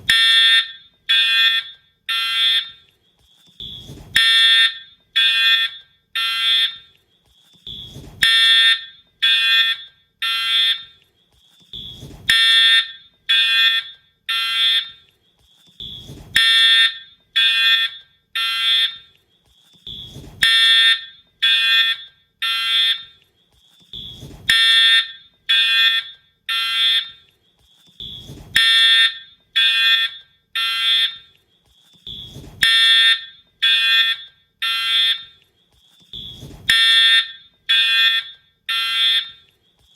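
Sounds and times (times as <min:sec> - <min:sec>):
fire alarm horn blasts: 0:00.0 - 0:02.9, 0:03.6 - 0:07.0, 0:07.6 - 0:11.0, 0:11.7 - 0:15.1, 0:15.8 - 0:19.2, 0:19.8 - 0:23.2, 0:23.9 - 0:27.3, 0:28.0 - 0:31.4, 0:32.0 - 0:35.4, 0:36.1 - 0:39.5.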